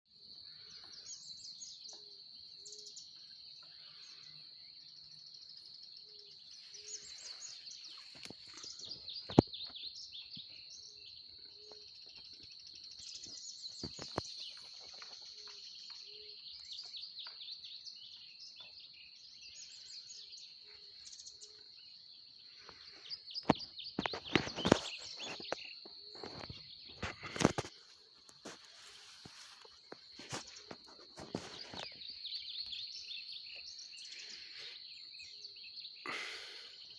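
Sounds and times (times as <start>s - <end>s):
birds chirping: 0.2s - 36.9s.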